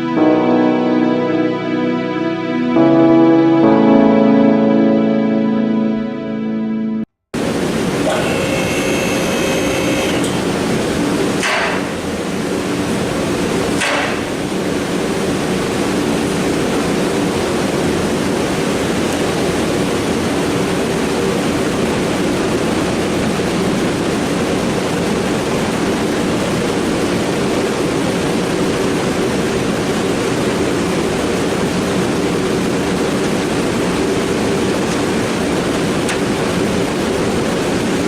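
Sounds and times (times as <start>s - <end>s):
heater air rushing: 7.4s - 38.0s.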